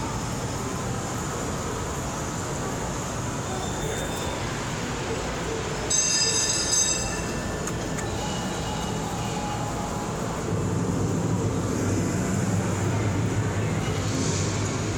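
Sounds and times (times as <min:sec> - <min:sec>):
noisy hall hum: 0:00.0 - 0:14.9.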